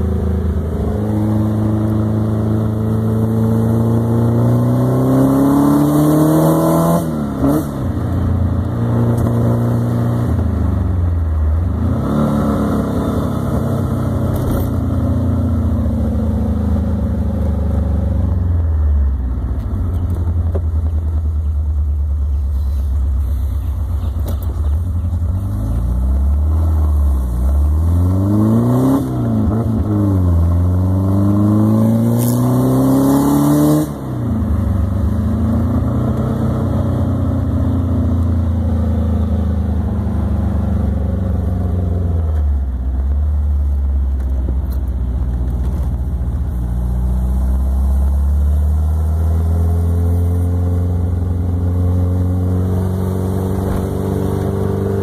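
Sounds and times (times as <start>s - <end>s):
car engine revving while driving: 0.0s - 18.6s, 23.3s - 55.0s.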